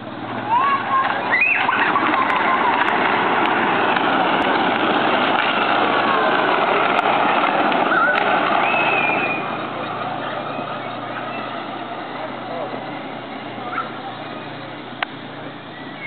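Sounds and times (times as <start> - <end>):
quad bike engines running: 0.0 - 16.0.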